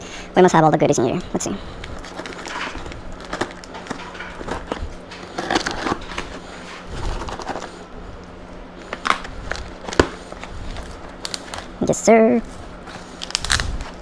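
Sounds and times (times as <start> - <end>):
packaging crinkling and rustling: 1.2 - 14.0.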